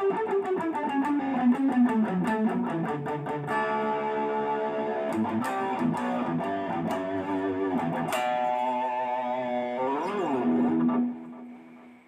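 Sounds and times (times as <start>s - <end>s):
electric guitar playing: 0.0s - 12.0s.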